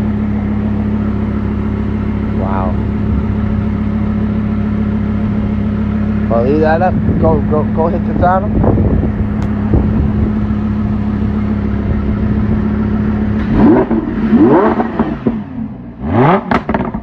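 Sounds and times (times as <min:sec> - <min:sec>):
car engine idling: 0:00.0 - 0:17.0
engine throttle blips: 0:00.0 - 0:17.0.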